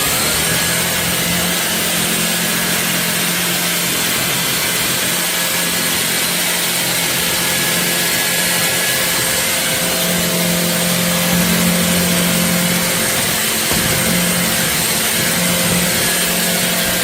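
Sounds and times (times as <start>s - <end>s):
stick vacuum running: 0.0s - 17.0s.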